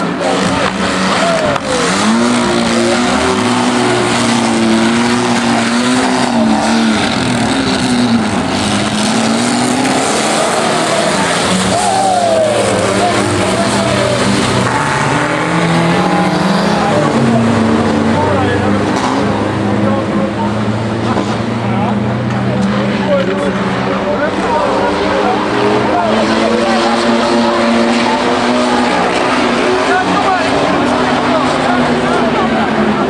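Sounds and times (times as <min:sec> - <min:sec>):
car engines revving: 0:00.0 - 0:33.0
track noise: 0:00.0 - 0:33.0.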